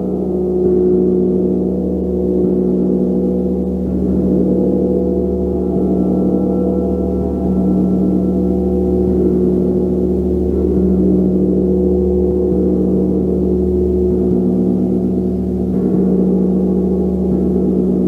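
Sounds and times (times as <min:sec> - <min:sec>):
gong played softly: 0:00.0 - 0:18.0.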